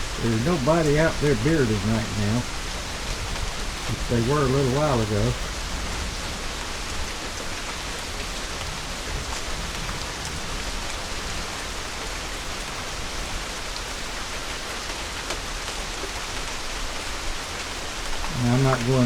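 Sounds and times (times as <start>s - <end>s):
raindrops pattering on surfaces: 0.0s - 19.0s
steady rain falling: 0.0s - 19.0s.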